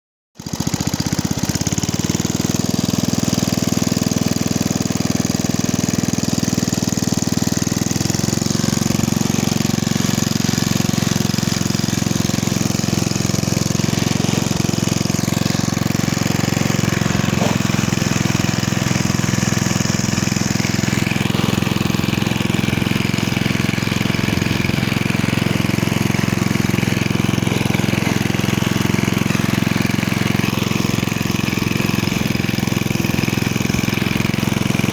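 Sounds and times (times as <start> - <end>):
lawn mower engine running: 0.4 - 34.9.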